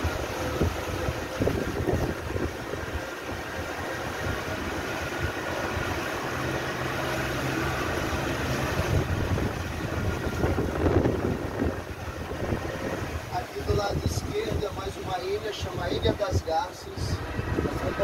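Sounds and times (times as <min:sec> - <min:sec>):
boat engine humming: 0:00.0 - 0:18.0
wind blowing: 0:00.0 - 0:18.0.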